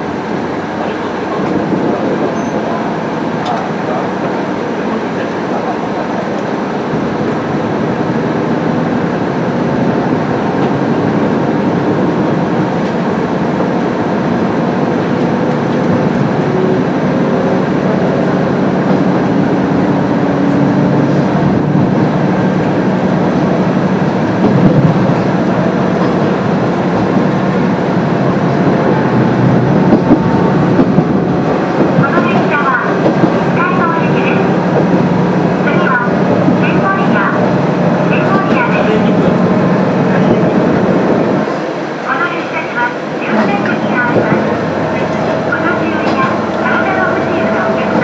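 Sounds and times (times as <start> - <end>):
diesel railcar engine and rail rumble: 0.0 - 48.0.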